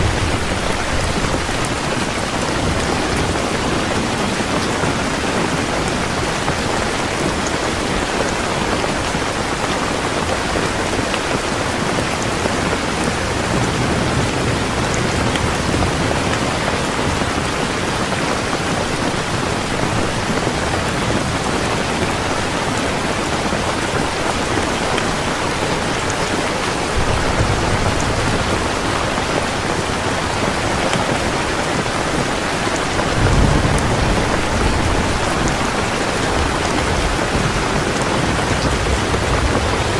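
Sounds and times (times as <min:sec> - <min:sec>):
low thunder rumbling: 0:00.0 - 0:08.0, 0:12.4 - 0:22.4, 0:24.2 - 0:39.9
heavy rain downpour: 0:00.0 - 0:39.9.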